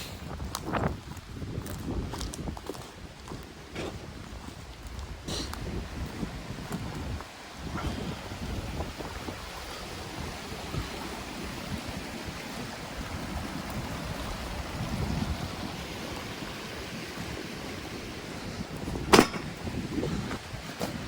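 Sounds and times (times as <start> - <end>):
wind on microphone: 0.0 - 21.0
stream water rushing: 3.1 - 21.0.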